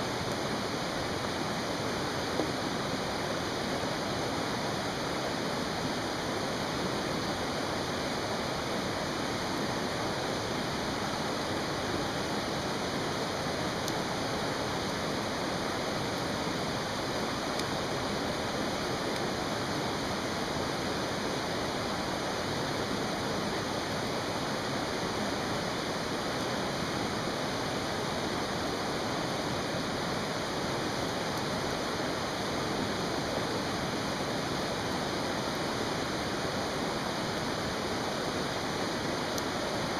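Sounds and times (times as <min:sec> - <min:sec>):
campfire crackles: 0:00.0 - 0:39.9
stream rushing: 0:00.0 - 0:39.9.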